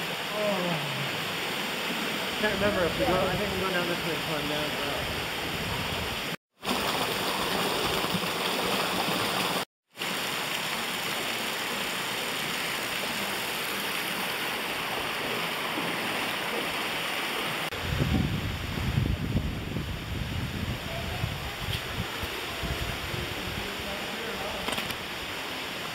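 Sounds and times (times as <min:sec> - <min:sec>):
stream water rushing over ledges: 0:00.0 - 0:17.8, 0:21.2 - 0:25.9.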